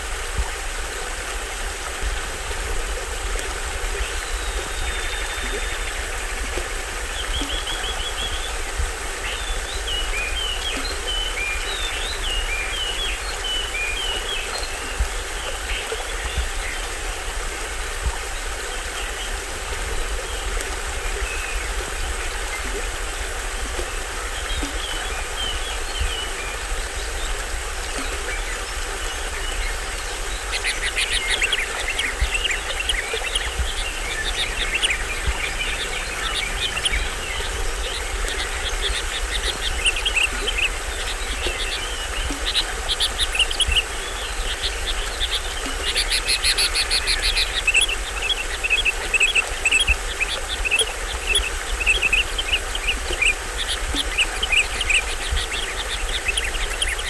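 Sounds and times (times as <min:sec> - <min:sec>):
small waterfall running: 0:00.0 - 0:57.0
forest birds chirping: 0:02.7 - 0:57.0.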